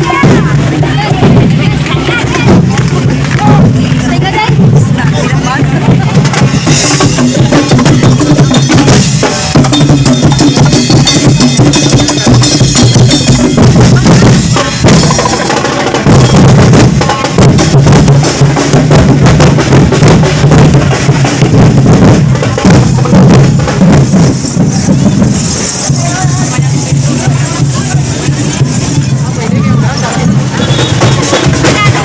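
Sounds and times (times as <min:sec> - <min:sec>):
drum-heavy music: 0:00.0 - 0:32.0.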